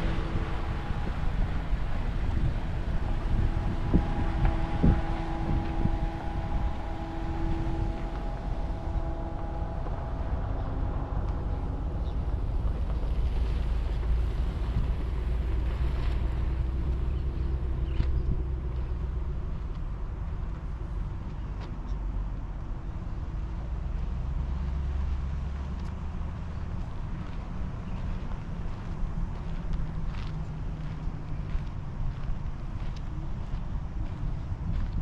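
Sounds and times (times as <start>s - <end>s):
motorboat engine humming: 0.0s - 35.0s
wind on the microphone: 0.0s - 35.0s.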